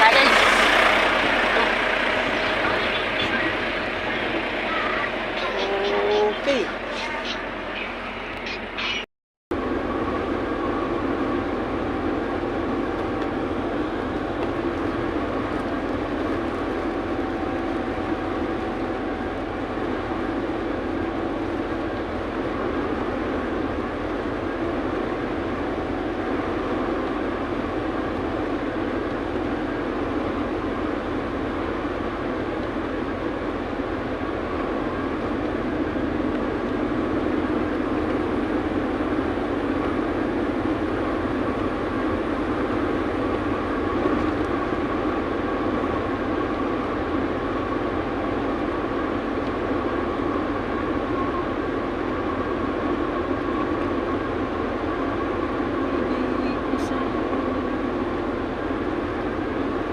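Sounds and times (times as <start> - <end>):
truck running rumble: 0.0 - 59.9.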